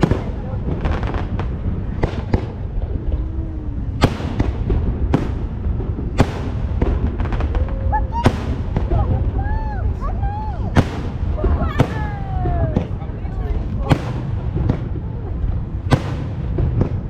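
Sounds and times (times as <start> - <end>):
firework bangs: 0.0 - 17.0
low rumble of shells bursting: 0.0 - 17.0.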